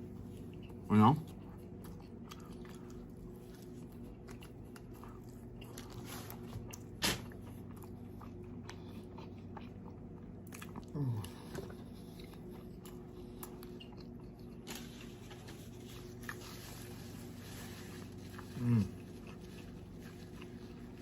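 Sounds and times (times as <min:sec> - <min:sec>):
chewing and biting food: 0:00.0 - 0:21.0.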